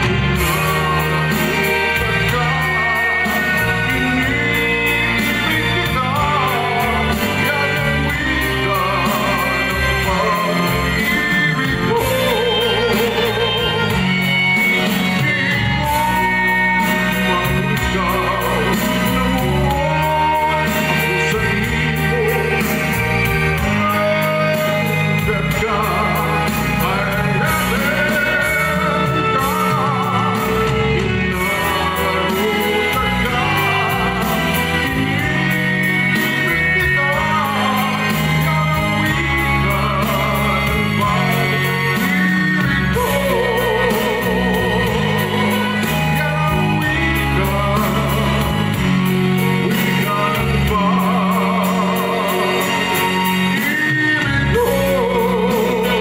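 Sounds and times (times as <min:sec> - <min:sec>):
amplified backing music: 0:00.0 - 0:56.0
man singing into a microphone: 0:00.0 - 0:56.0.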